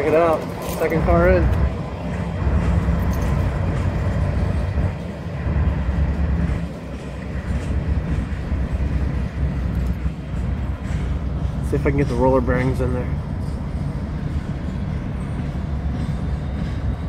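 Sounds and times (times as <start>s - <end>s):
freight train wheels rumbling on rail: 0.0s - 17.0s.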